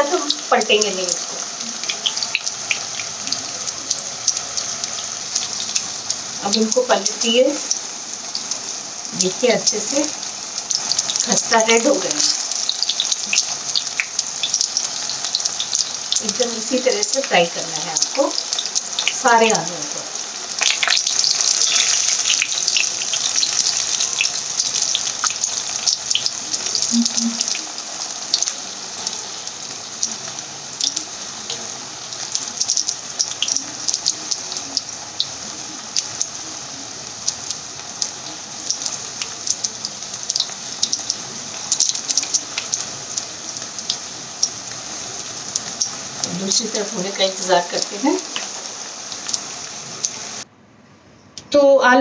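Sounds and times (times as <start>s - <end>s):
potatoes sizzling in oil: 0.0s - 50.5s.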